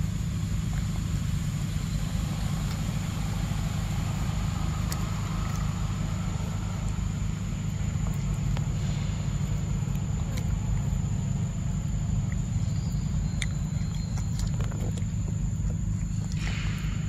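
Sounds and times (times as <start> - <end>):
faint high-pitched whine: 0.0 - 17.0
steady low rumble: 0.0 - 17.0.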